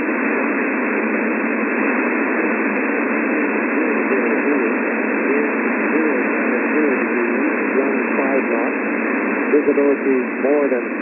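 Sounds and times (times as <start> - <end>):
shortwave radio static hiss: 0.0 - 11.0.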